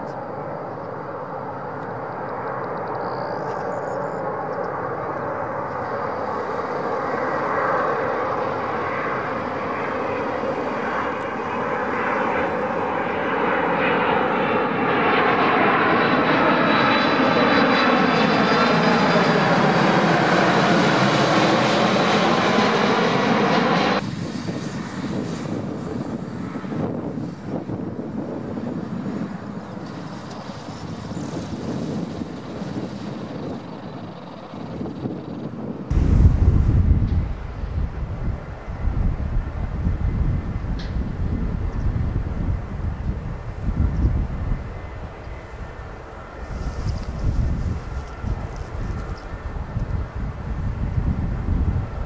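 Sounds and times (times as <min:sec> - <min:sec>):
high engine whine: 0:00.0 - 0:52.0
jet airliner passing overhead: 0:00.0 - 0:52.0.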